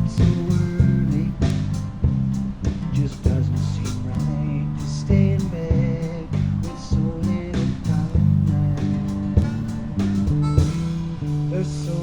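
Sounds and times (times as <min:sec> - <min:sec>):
bass guitar: 0:00.0 - 0:12.0
drums: 0:00.0 - 0:12.0
guitar: 0:00.0 - 0:12.0.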